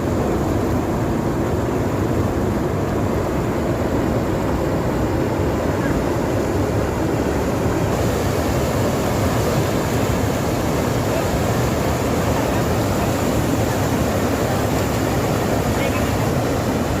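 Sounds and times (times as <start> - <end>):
floodwater rushing across road: 0.0 - 17.0.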